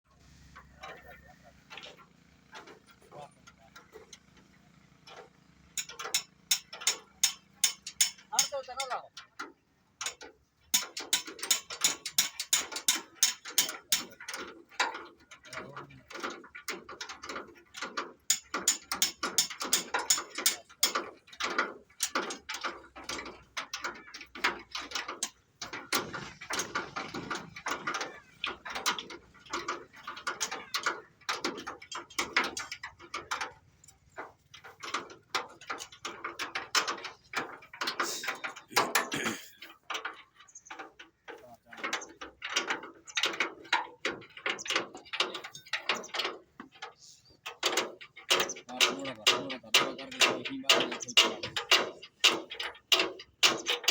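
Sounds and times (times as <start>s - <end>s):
ratchet-like metallic clicking: 5.1s - 9.1s, 10.0s - 46.5s, 47.5s - 53.9s.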